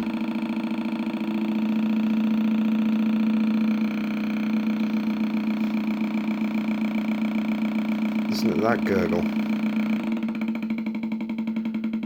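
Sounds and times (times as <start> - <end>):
electronic engine sound droning: 0.0 - 12.0.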